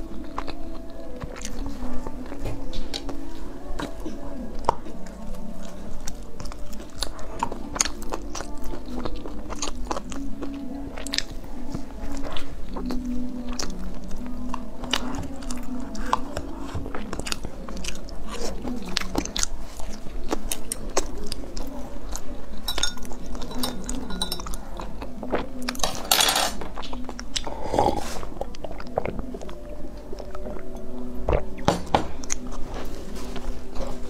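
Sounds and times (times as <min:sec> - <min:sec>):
chewing bread: 0:00.0 - 0:34.0.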